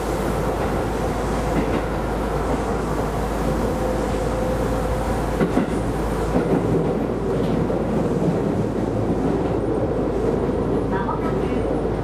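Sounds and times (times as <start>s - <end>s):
train rolling noise with hum: 0.0s - 12.0s.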